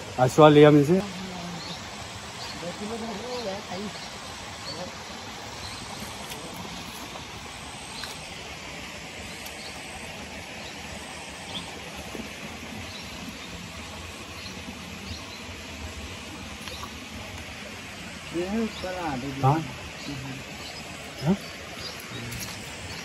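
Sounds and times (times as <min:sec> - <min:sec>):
small birds chirping: 0:00.0 - 0:08.4, 0:09.1 - 0:23.0
outdoor background hiss: 0:00.0 - 0:23.0.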